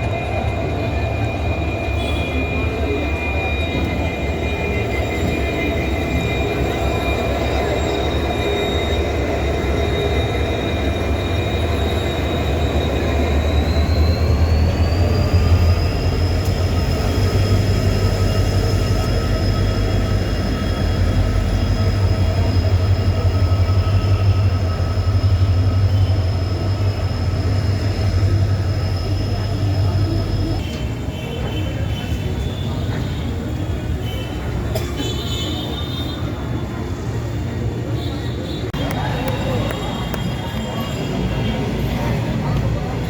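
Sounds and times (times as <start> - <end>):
freight train rumbling past: 0.0 - 43.0
high wheel squeal: 0.0 - 43.0.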